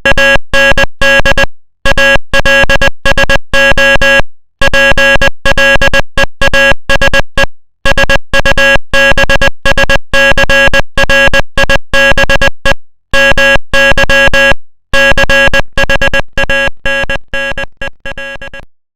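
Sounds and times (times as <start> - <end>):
morse code beeps: 0.1 - 18.7.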